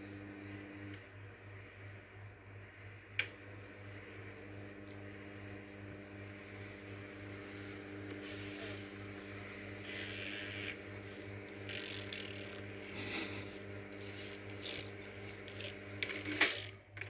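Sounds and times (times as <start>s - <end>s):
microwave oven pulsing hum: 0.0s - 17.0s.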